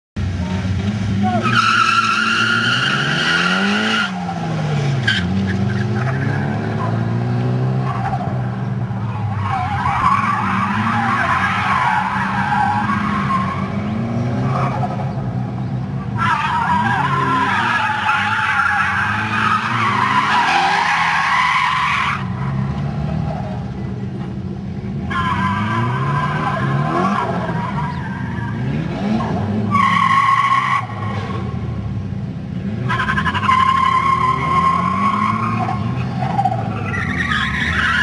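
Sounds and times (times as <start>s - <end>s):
car engines revving: 0.2s - 38.0s
tyres squealing: 1.2s - 4.4s, 5.0s - 15.3s, 16.0s - 23.6s, 24.9s - 31.5s, 32.8s - 38.0s.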